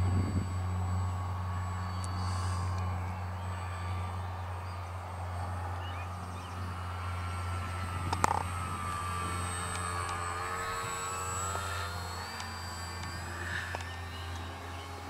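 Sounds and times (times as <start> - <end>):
model plane motor whine: 0.0 - 15.0
steady low drone: 0.0 - 15.0.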